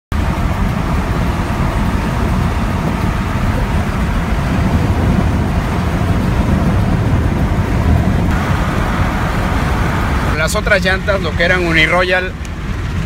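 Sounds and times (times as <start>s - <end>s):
road noise inside truck cab: 0.1s - 13.0s.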